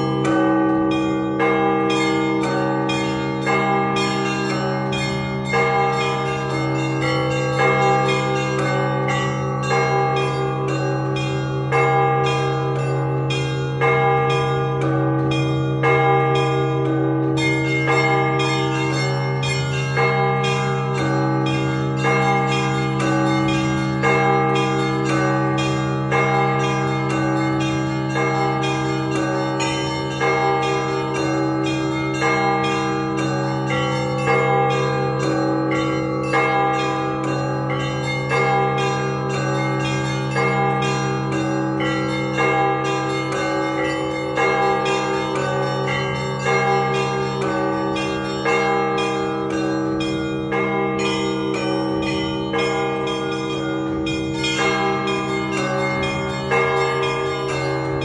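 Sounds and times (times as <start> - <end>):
church bells ringing: 0.0 - 58.0
deep hum of large bell: 0.0 - 58.0.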